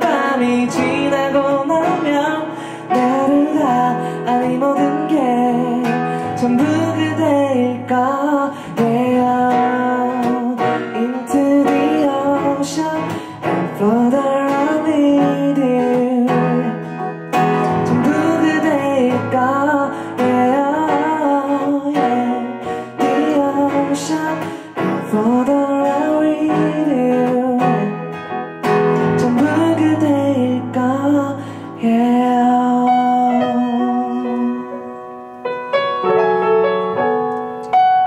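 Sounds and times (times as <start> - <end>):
strummed acoustic guitar: 0.0 - 35.0
man singing a slow ballad: 0.0 - 35.4.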